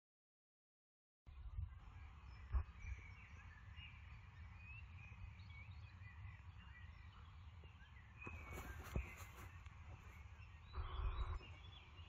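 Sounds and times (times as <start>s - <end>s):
small birds chirping: 1.3s - 12.0s
wind rumbling on microphone: 1.3s - 12.0s.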